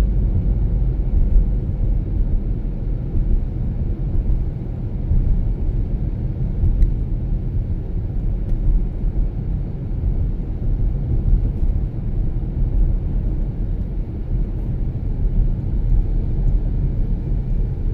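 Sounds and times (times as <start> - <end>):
car engine and tyres rumbling: 0.0 - 17.9.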